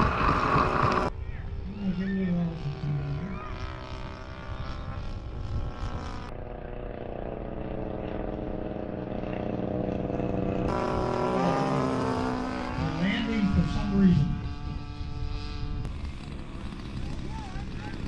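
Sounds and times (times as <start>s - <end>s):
model airplane engine running: 0.0s - 18.0s.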